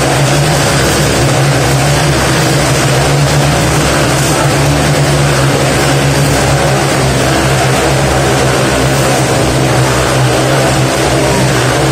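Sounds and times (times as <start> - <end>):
motorcycle engines droning: 0.0 - 11.9.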